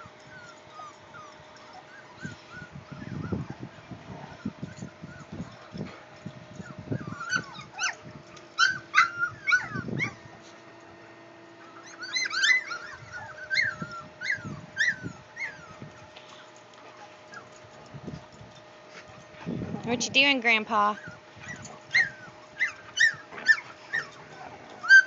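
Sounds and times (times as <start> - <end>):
puppies squealing and yipping: 0.0 - 10.6, 11.5 - 18.4, 20.7 - 25.0.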